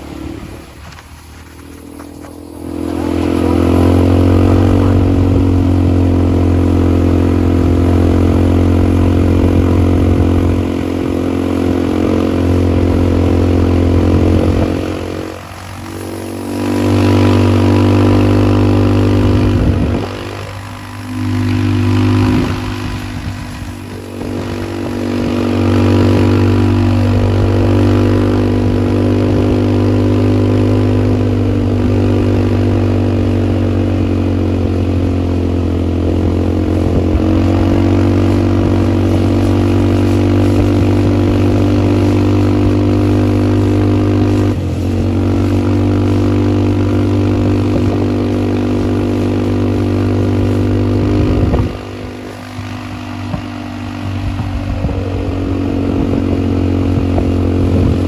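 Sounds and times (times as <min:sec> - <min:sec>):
atv engine under throttle: 0:00.0 - 0:58.0.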